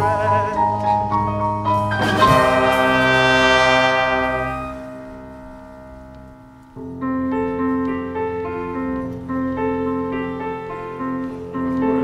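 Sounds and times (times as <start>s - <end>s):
musical accompaniment: 0.0s - 12.0s.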